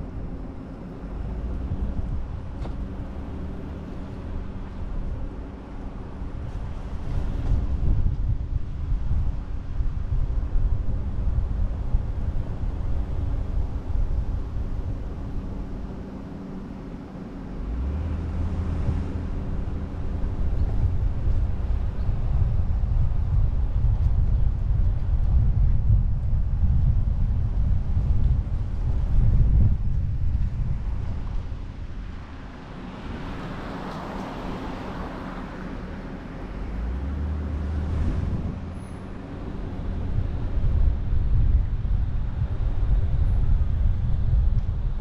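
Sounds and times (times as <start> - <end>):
car engine and tyres rumbling: 0.0 - 45.0
wind buffeting microphone: 0.0 - 45.0.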